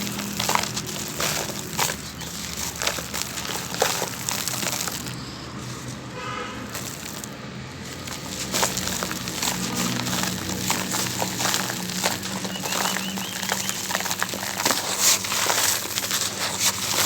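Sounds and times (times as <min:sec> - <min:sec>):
chunks crumbling in water: 0:00.0 - 0:17.0.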